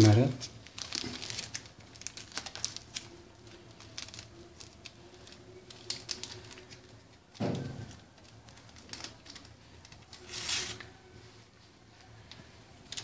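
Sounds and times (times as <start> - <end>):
paper sachets clicking: 0.0 - 10.9, 12.0 - 13.0.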